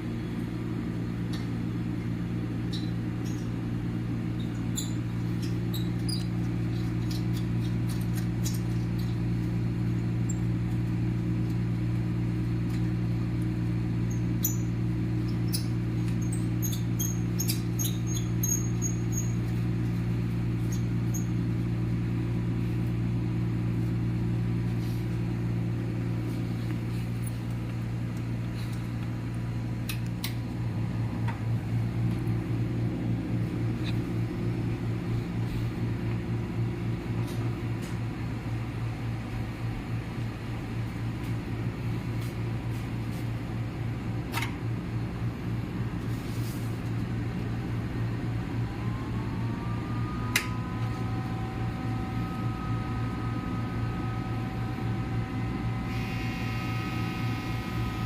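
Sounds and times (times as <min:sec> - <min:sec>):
electrical hum with fan noise: 0:00.0 - 0:58.0
high steady whine: 0:00.0 - 0:58.0.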